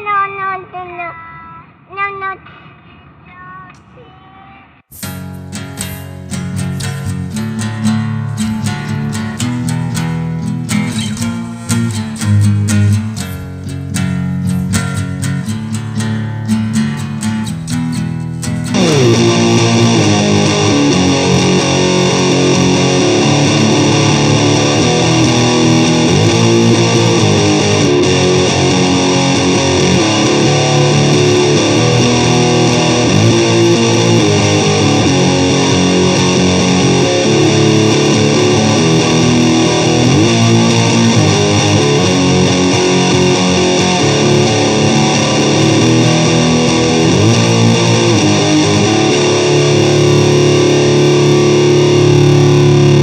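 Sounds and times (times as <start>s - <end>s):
guitar with sliding notes: 5.0s - 53.0s.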